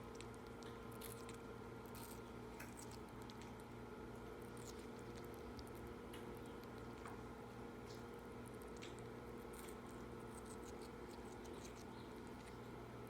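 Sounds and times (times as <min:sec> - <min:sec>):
parakeet chewing fruit: 0:00.0 - 0:13.0
steady low hum: 0:00.0 - 0:13.0.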